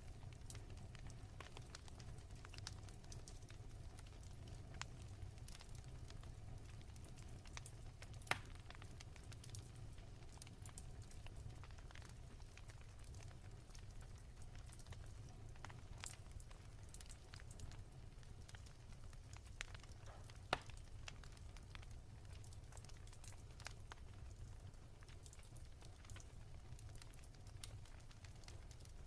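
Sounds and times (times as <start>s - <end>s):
low rumble of fire: 0.0s - 29.0s
wood fire crackling: 0.0s - 29.0s.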